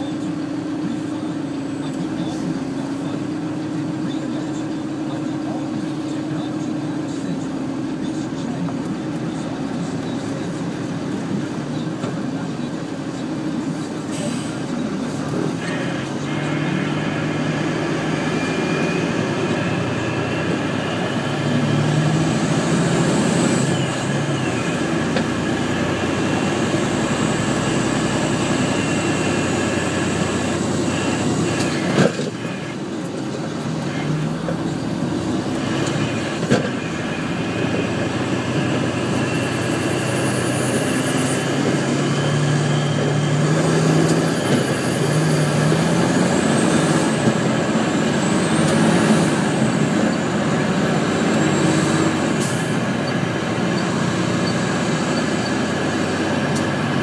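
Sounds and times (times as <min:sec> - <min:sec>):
diesel machinery running: 0:00.0 - 0:57.0.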